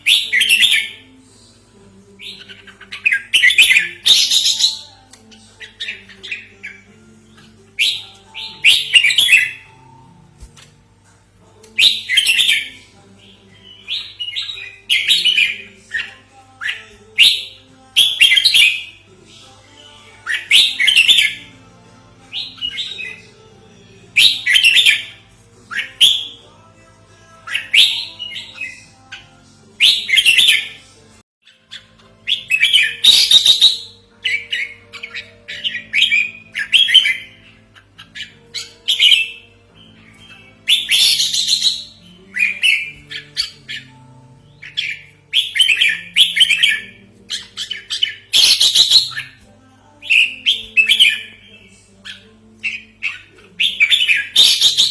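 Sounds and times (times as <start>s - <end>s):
bird chirping phrases: 0.0s - 1.2s, 2.0s - 10.2s, 11.5s - 54.9s.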